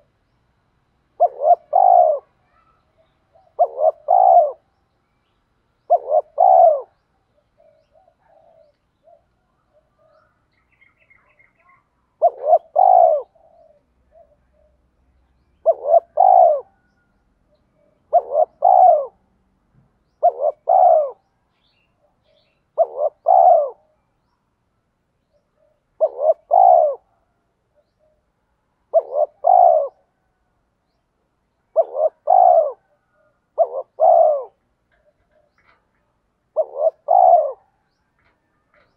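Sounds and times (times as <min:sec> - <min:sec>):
dove cooing: 0:01.1 - 0:04.7, 0:05.8 - 0:15.0, 0:15.6 - 0:19.3, 0:20.0 - 0:21.3, 0:22.0 - 0:24.1, 0:25.5 - 0:30.4, 0:31.7 - 0:38.9.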